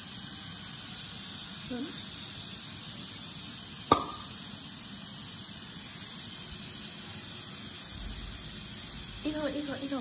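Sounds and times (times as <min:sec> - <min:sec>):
wok hissing over gas burner: 0:00.0 - 0:10.0.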